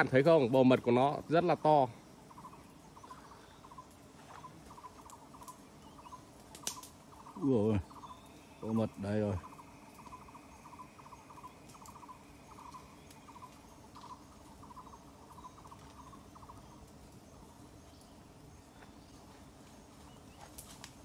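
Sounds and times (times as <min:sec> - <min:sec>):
insect chirping in rapid trills: 0:00.0 - 0:21.0.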